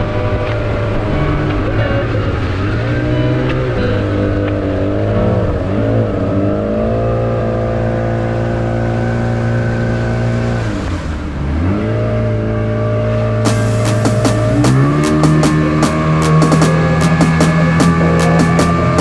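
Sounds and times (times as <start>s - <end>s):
motorboat engine running: 0.0s - 19.0s.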